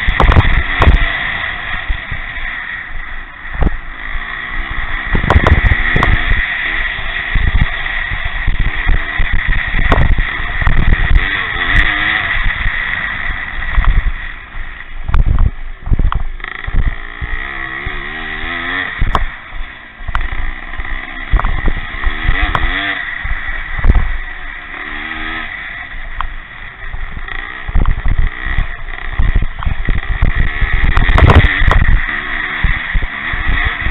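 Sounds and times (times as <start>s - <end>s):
motorcycle engines revving: 0.0s - 33.9s.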